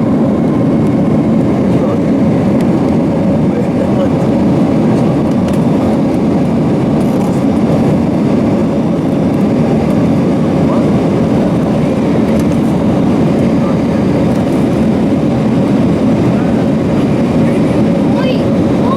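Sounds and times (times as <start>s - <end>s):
airliner cabin engine rumble: 0.0s - 18.9s.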